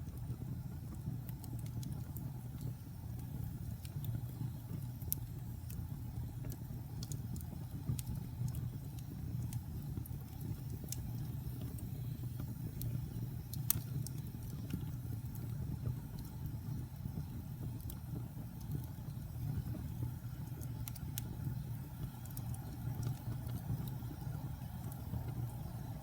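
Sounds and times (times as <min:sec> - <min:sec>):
flames rumbling: 0:00.0 - 0:26.0
logs crackling and popping: 0:00.0 - 0:26.0.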